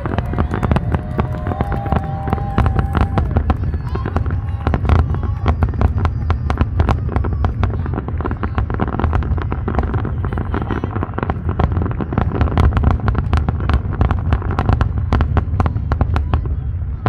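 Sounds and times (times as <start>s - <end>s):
fireworks cracking and popping: 0.0s - 17.0s.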